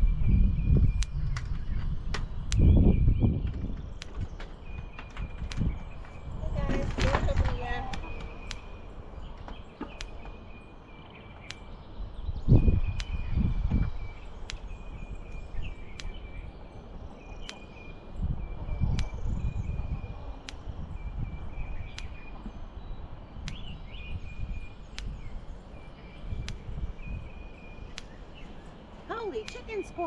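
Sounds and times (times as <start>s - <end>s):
wind rumbling on microphone: 0.0s - 30.0s
sharp tick: 0.8s - 10.5s, 11.4s - 11.9s, 12.6s - 16.6s, 17.2s - 18.0s, 18.8s - 22.5s, 23.4s - 24.0s, 24.8s - 30.0s.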